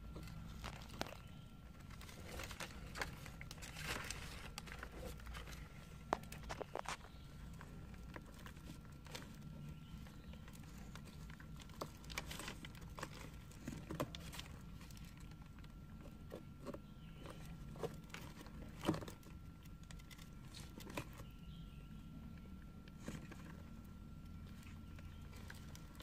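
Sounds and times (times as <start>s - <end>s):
tortoises crunching food: 0.0s - 26.0s.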